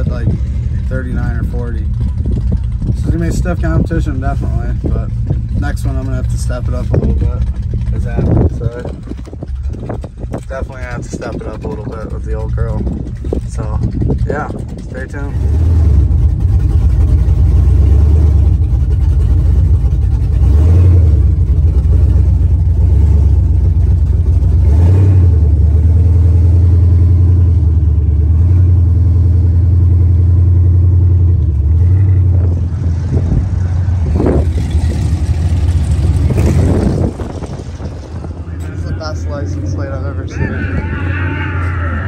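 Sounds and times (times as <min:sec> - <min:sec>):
old car engine running loud: 0:00.0 - 0:42.0.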